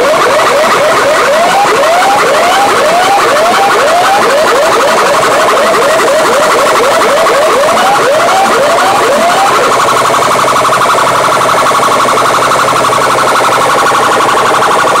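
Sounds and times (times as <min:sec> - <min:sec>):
siren-like alarm over loudspeakers: 0:00.0 - 0:15.0.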